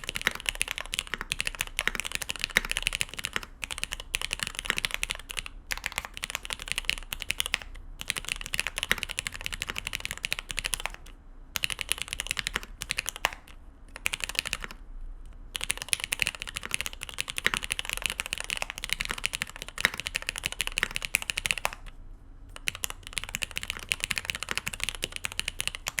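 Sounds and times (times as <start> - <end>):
mechanical keyboard typing: 0.0 - 14.8, 15.4 - 26.0.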